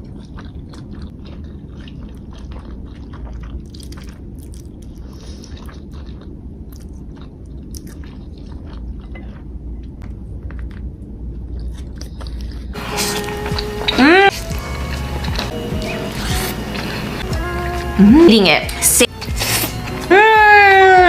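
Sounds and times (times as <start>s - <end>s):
wet chewing and biting: 0.0s - 18.0s
steady low hum: 0.0s - 20.8s.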